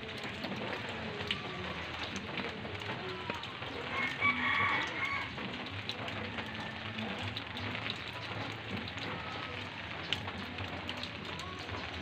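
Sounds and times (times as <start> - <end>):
drops ticking: 0.0 - 12.0
rain falling on plants: 0.0 - 12.0.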